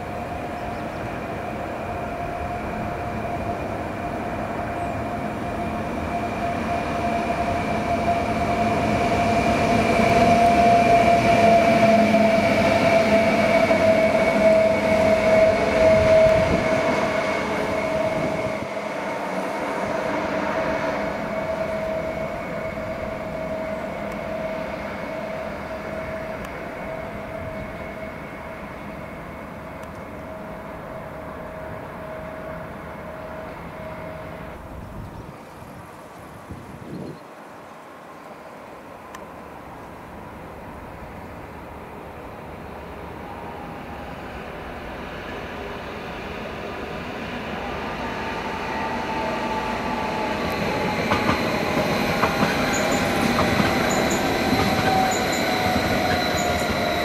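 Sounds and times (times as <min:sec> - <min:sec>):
train whining tones: 0:00.0 - 0:35.0, 0:39.0 - 0:57.0
train rumble: 0:00.0 - 0:38.0, 0:38.8 - 0:57.0.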